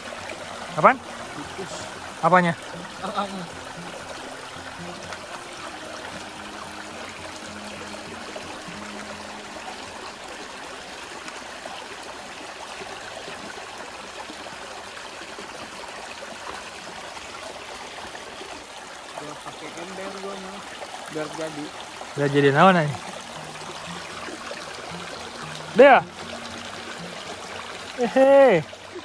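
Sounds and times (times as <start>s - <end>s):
river flowing: 0.0s - 29.0s.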